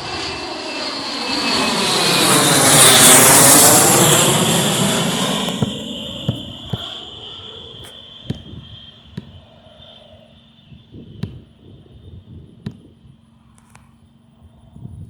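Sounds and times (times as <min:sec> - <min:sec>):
airliner engine roar: 0:00.0 - 0:15.0.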